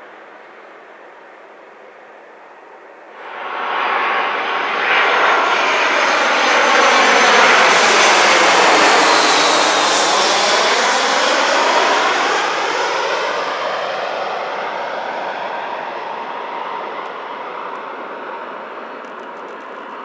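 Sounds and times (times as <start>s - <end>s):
jet airliner passing overhead: 0.2s - 20.0s.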